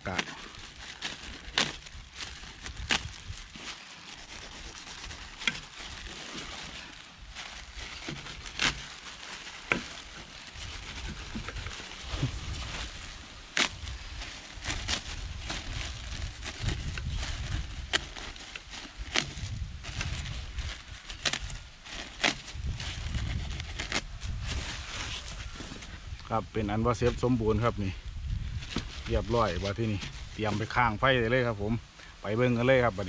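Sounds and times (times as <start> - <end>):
plastic crinkling and rustling: 0.0 - 26.3, 28.4 - 31.2.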